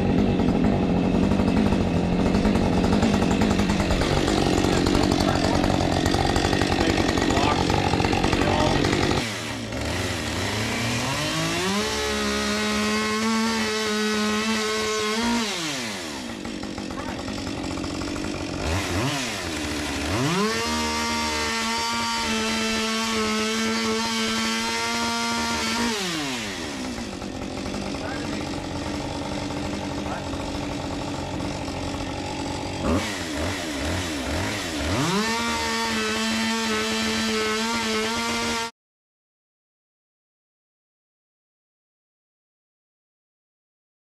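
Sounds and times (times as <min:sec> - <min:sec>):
chainsaw cutting boards: 0:00.0 - 0:38.7.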